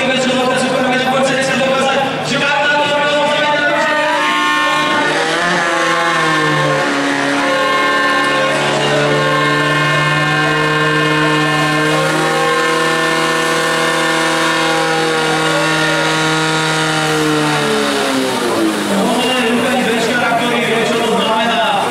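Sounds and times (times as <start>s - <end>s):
fire pump engine running: 0.0s - 21.9s.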